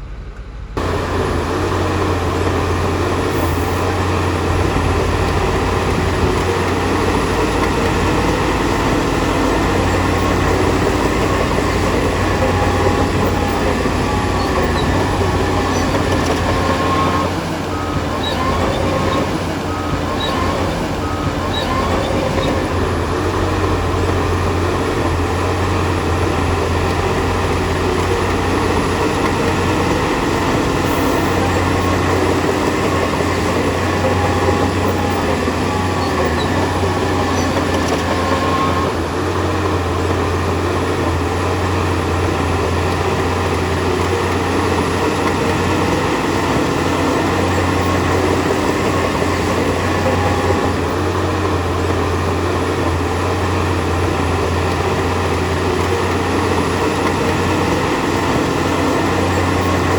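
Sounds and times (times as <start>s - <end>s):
bulldozer diesel engine humming: 0.0s - 59.9s
crawler tracks clanking: 0.0s - 59.9s.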